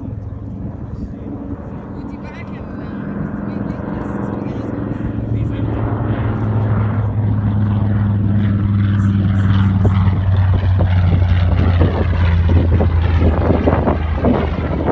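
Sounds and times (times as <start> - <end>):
propeller plane flying past: 0.0 - 14.9.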